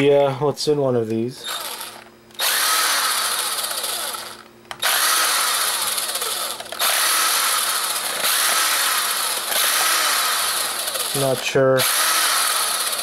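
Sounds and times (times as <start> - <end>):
impact driver running: 1.4 - 13.0.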